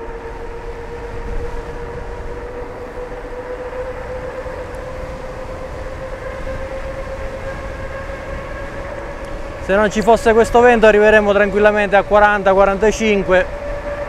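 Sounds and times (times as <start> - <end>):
electric motor whining: 0.0 - 14.0
wind rumbling on microphone: 0.0 - 14.0.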